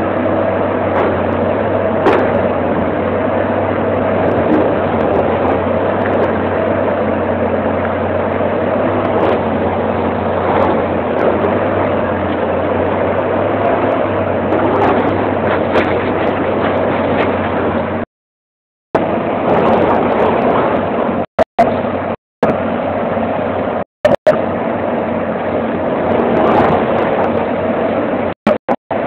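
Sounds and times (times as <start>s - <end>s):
excavator diesel engine running: 0.0s - 18.1s, 18.9s - 29.0s.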